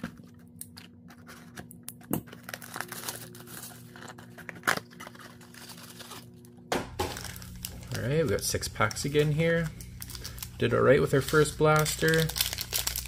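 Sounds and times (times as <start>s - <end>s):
cardboard tearing and crinkling: 0.0s - 8.2s, 10.0s - 13.0s.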